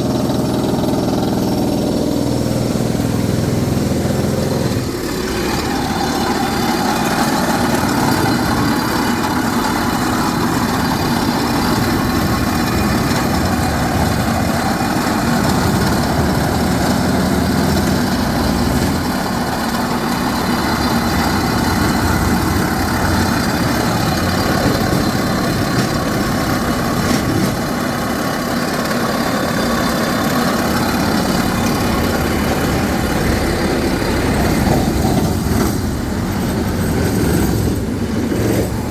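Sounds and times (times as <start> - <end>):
drilling rig engine running: 0.0 - 38.9
heavy rain hissing: 0.0 - 38.9.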